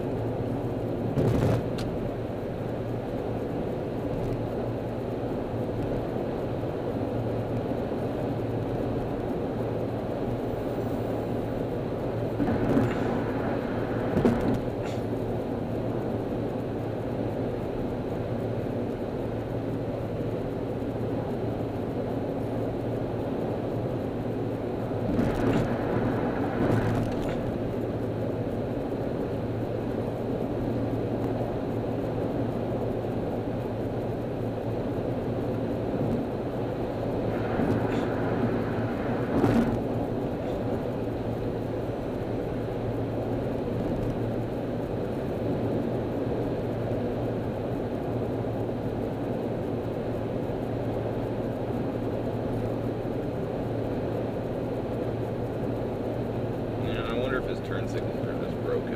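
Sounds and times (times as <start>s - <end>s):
car road and engine noise: 0.0s - 58.9s
low hum: 0.0s - 58.9s.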